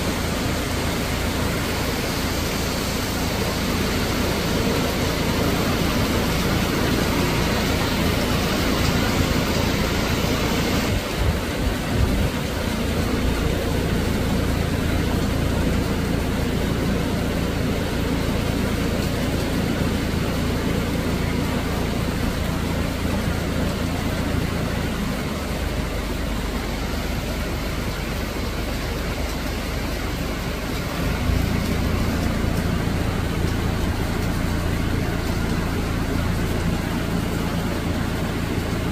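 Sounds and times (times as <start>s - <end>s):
rain and wind: 0.0s - 38.9s.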